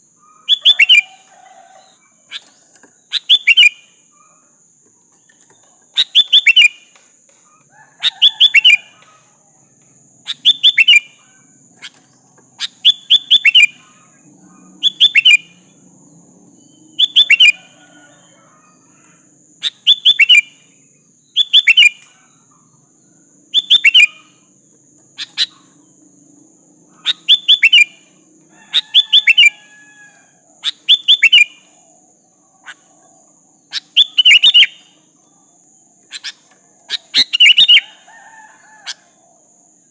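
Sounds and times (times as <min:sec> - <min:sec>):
bird calling: 0:00.0 - 0:04.6, 0:05.2 - 0:09.5, 0:10.2 - 0:15.8, 0:16.6 - 0:20.7, 0:23.5 - 0:24.5, 0:25.1 - 0:25.9, 0:26.9 - 0:35.2, 0:36.0 - 0:39.9.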